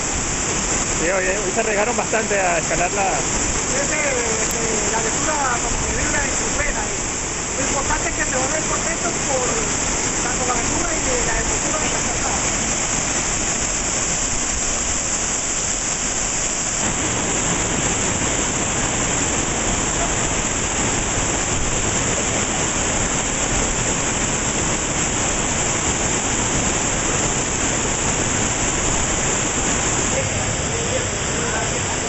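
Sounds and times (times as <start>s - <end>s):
river water rushing over rocks: 0.0s - 32.0s.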